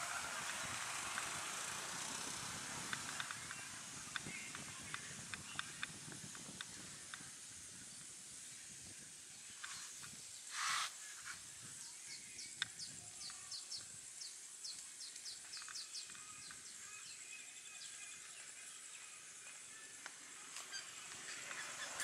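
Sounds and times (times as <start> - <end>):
steady high hiss: 0.0 - 22.0
small birds chirping: 0.2 - 22.0.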